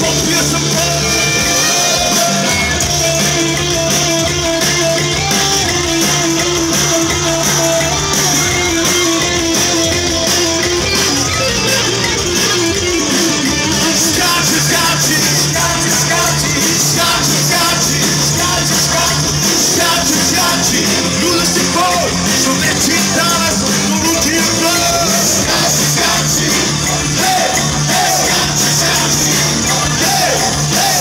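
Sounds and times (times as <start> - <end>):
bass: 0.0 - 31.0
drums: 0.0 - 31.0
electric guitar: 0.0 - 31.0.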